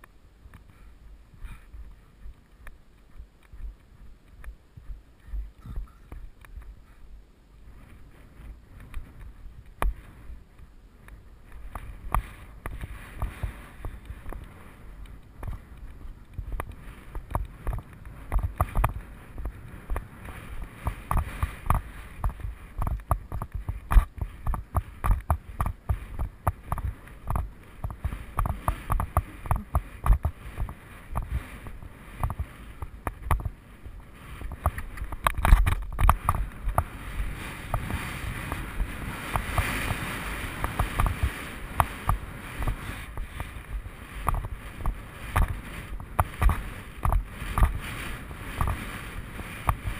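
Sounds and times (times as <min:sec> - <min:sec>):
horse hoofbeats on grass: 0:00.0 - 0:06.8, 0:07.7 - 0:49.9
wind buffeting microphone: 0:00.0 - 0:49.9.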